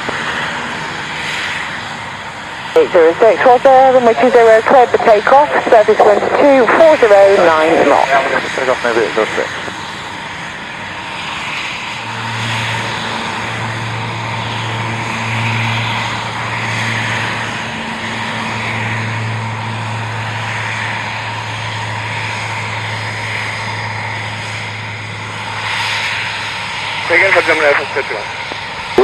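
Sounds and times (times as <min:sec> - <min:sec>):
propeller aircraft engine drone: 0:00.0 - 0:29.0.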